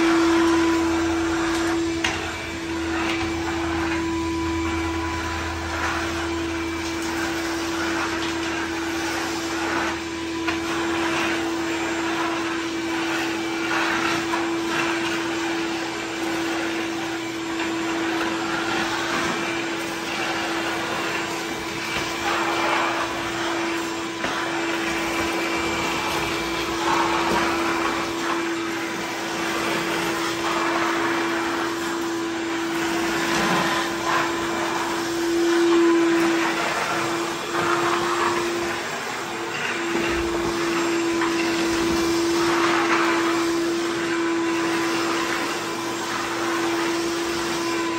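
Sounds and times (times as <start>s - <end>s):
shop vacuum motor whine: 0.0s - 47.9s.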